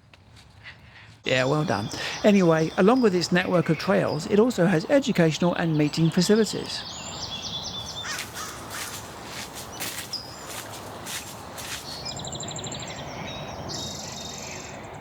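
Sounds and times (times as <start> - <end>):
outdoor background noise: 0.0 - 15.0
high rapid bird trills: 1.3 - 14.9
harsh bird calls: 1.3 - 15.0.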